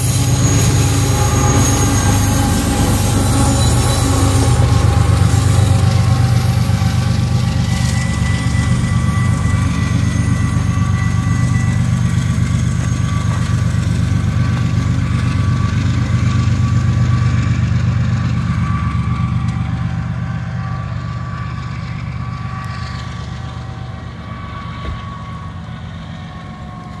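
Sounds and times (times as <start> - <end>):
freight train rumbling past: 0.0 - 27.0.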